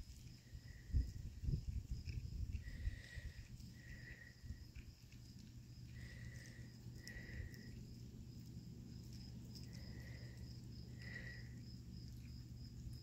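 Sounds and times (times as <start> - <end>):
insects chirping: 0.0 - 13.0
low steady rumble: 0.0 - 13.0.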